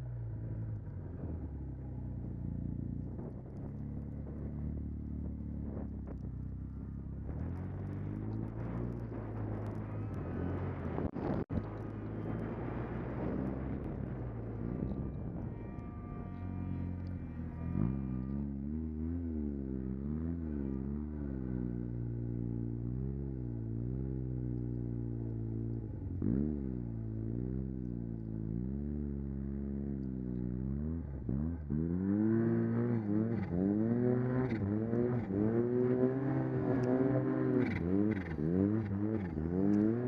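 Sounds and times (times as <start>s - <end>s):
snowmobile engine revving: 6.7s - 40.0s.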